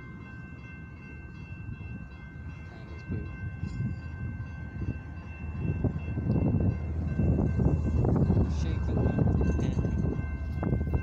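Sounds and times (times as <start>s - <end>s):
diesel locomotive rumbling: 0.0s - 11.0s
road vehicle noise: 0.0s - 11.0s.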